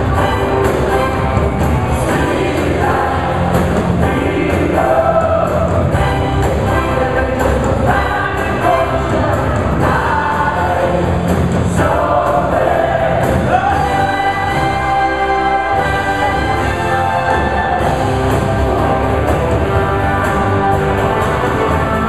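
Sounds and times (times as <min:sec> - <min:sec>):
gospel group singing: 0:00.0 - 0:22.0
live band playing: 0:00.0 - 0:22.0.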